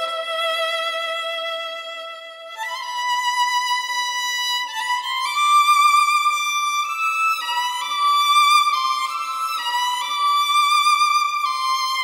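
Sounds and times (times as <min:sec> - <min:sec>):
slow violin melody: 0:00.0 - 0:12.0.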